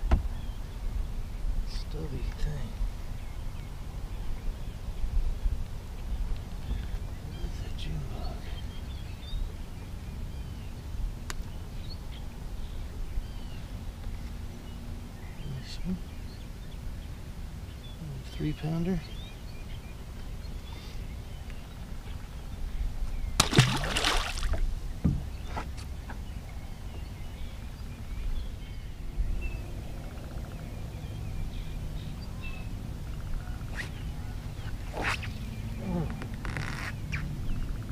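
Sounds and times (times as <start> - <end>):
faint birds chirping: 0.0 - 37.9.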